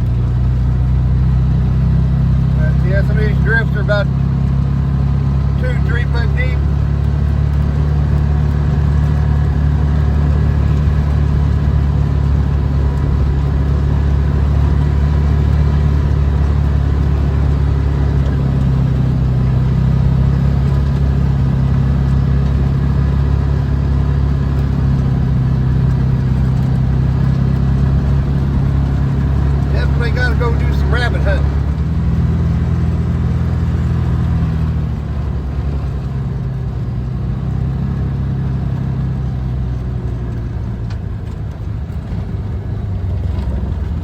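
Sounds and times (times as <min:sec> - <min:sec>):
vehicle engine droning: 0:00.0 - 0:44.0.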